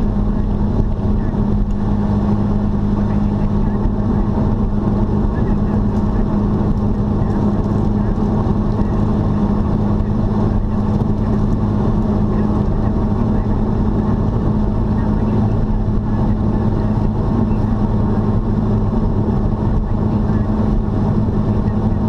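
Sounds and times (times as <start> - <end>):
car engine hum: 0.0 - 22.0
tyre and road noise: 0.0 - 22.0.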